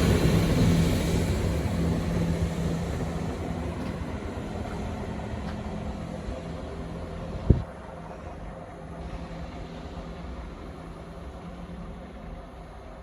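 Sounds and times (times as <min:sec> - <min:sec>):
diesel train engine drone: 0:00.0 - 0:13.0.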